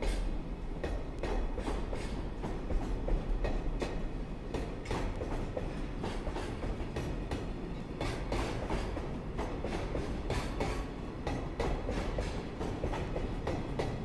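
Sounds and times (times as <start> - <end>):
low train rumble: 0.0 - 14.0
train wheels clattering over rail joints: 0.0 - 14.0.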